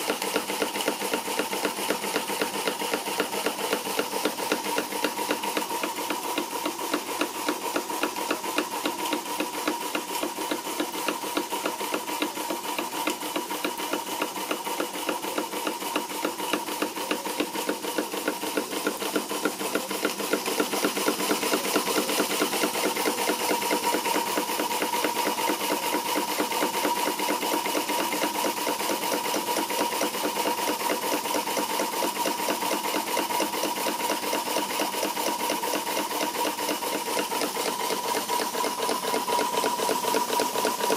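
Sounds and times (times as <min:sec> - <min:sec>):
model steam engine running: 0:00.0 - 0:40.9.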